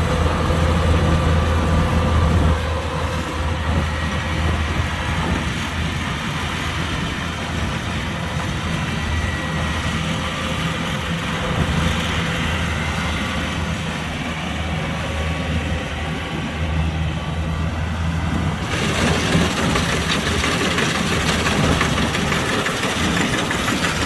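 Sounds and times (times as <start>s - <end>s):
combine harvester engine humming: 0.0s - 24.0s.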